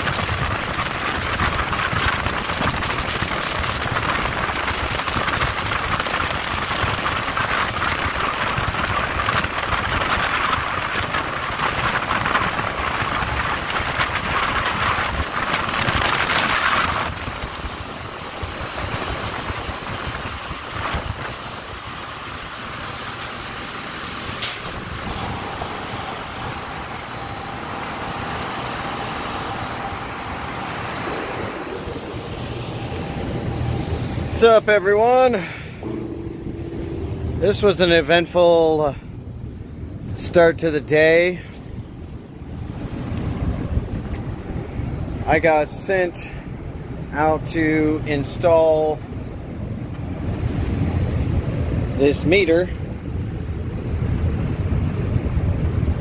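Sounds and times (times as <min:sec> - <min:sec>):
background hum with faint whine: 0:00.0 - 0:56.0.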